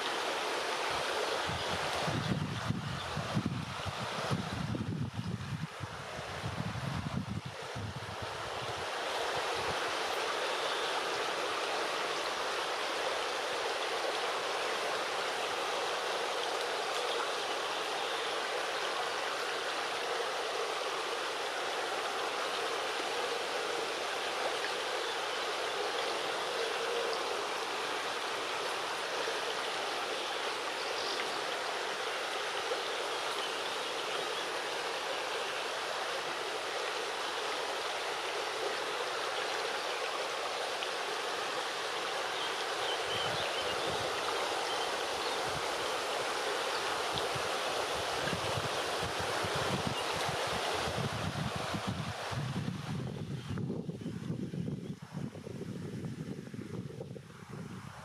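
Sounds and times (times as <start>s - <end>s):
river running over rocks: 0.0s - 53.8s.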